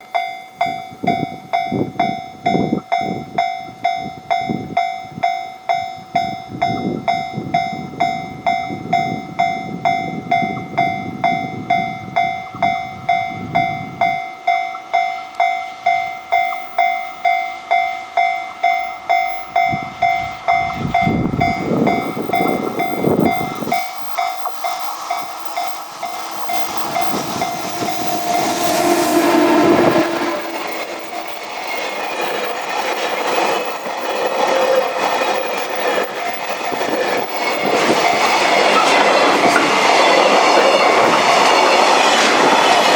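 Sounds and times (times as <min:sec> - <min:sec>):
level crossing warning bell: 0:00.0 - 0:42.1
freight train approaching: 0:00.0 - 0:42.9.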